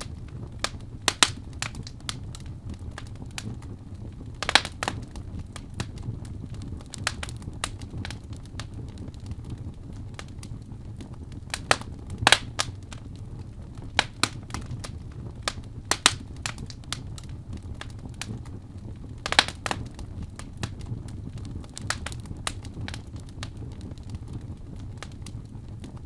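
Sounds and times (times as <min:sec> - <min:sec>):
fire crackling and popping: 0:00.0 - 0:26.0
low fire rumble: 0:00.0 - 0:26.0.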